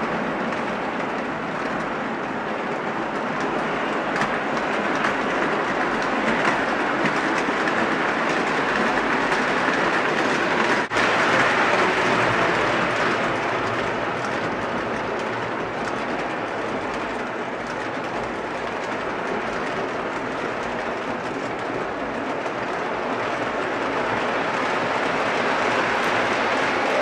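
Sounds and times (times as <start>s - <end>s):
model train wheels clattering on rails: 0.0s - 27.0s.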